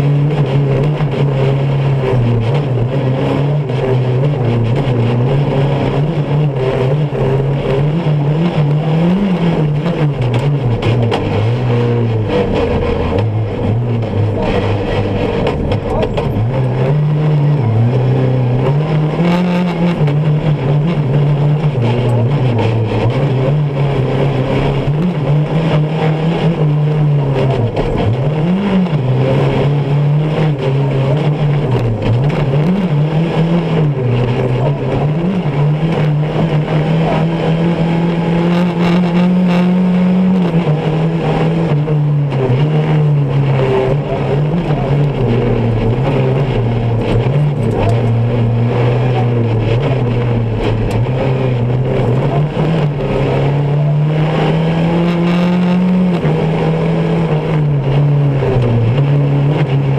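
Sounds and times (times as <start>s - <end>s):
buggy engine revving: 0.0s - 59.9s
tyres on dirt track: 0.0s - 59.9s.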